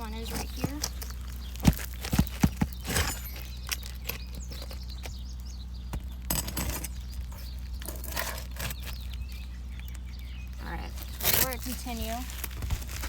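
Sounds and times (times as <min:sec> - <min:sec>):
metal scraping under shingles: 0:00.0 - 0:05.3, 0:06.0 - 0:09.3, 0:10.6 - 0:13.0.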